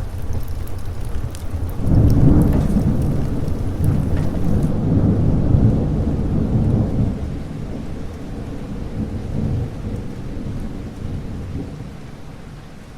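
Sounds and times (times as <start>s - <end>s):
low rolling thunder: 0.0s - 12.4s
steady rain: 0.0s - 12.9s.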